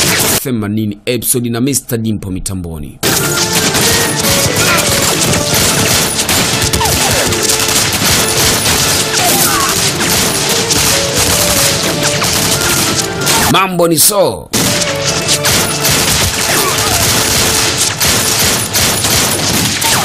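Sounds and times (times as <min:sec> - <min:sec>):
rifle and machine-gun fire: 0:00.0 - 0:00.4, 0:03.0 - 0:13.5, 0:14.6 - 0:20.0
film score music: 0:03.0 - 0:20.0.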